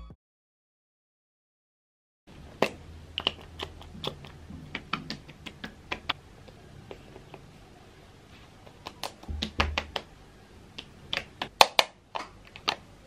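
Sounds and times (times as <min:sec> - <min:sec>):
low steady hum: 0:02.3 - 0:13.0.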